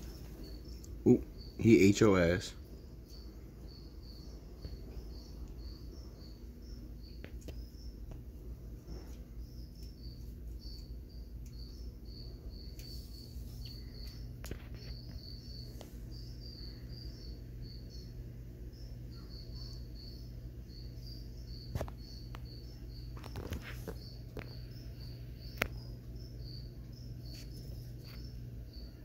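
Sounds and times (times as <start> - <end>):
crickets chirping: 0.0 - 29.0
low steady hum: 0.0 - 29.0.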